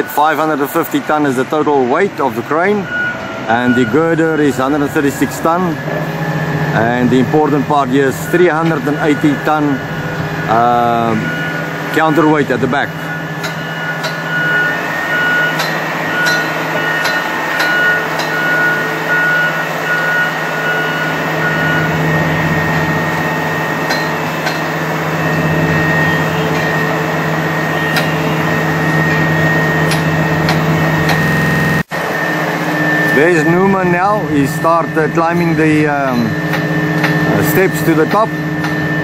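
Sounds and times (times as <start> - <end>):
crane diesel engine running: 0.0 - 39.0
short warning beeps: 2.6 - 39.0.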